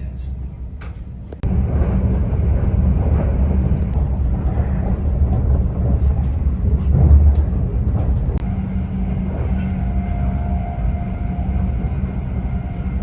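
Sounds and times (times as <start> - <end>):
electric train running rumble: 0.0 - 13.0
wheel and track running noise: 0.0 - 13.0.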